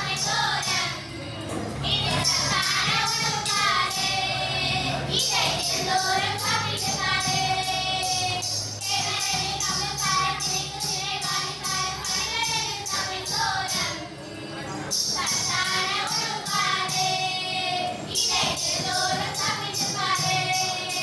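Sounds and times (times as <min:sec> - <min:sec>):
children singing: 0:00.0 - 0:21.0
jingling bells on a bow: 0:00.0 - 0:21.0.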